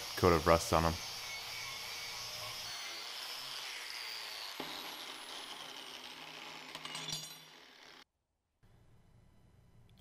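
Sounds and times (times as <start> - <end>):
angle grinder whine: 0.0 - 8.0.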